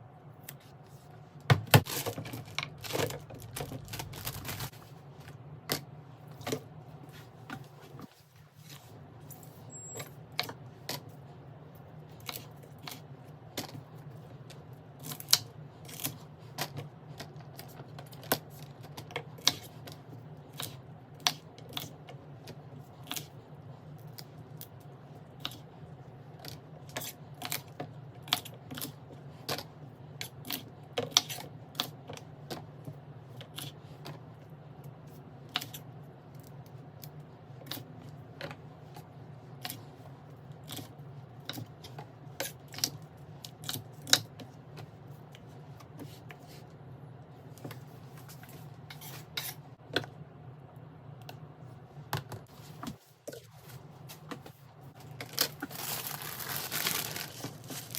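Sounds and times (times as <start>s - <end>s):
refrigerator hum: 0.0s - 57.9s.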